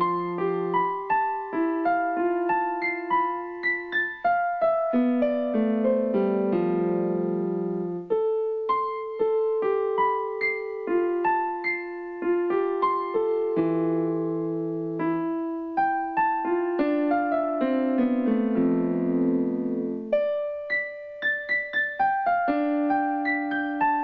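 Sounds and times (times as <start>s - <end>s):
keyboard melody: 0.0s - 24.0s.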